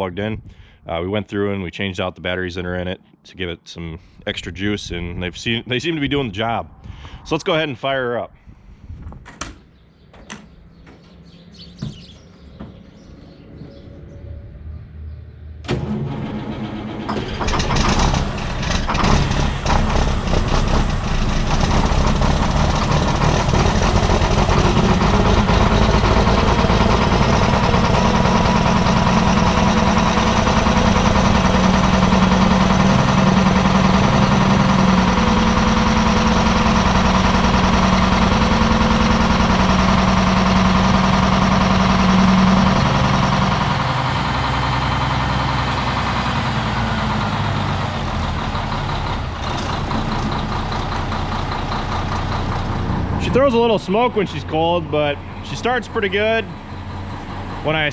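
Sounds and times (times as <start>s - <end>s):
diesel truck engine starting and idling: 10.3s - 57.9s.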